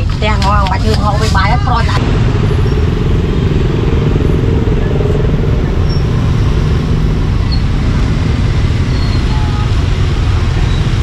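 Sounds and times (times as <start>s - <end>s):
motorbike engines running: 0.0s - 11.0s
road traffic rumble: 0.0s - 11.0s.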